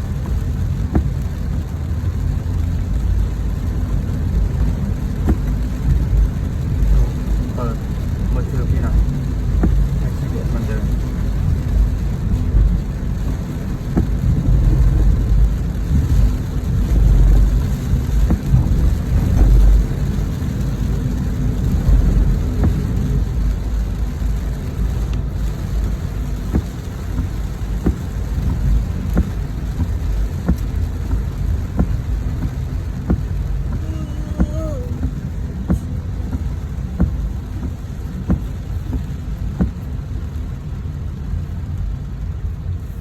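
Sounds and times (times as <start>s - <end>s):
constant low rumble: 0.0s - 43.0s
rain falling: 0.0s - 43.0s
raindrop ticks: 0.0s - 43.0s.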